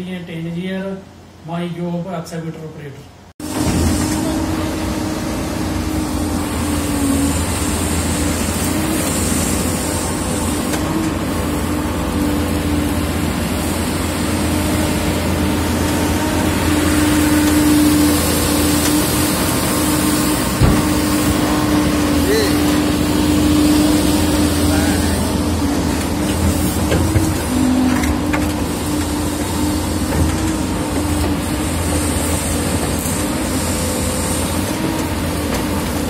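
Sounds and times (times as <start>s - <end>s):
excavator diesel engine running: 3.4s - 36.0s.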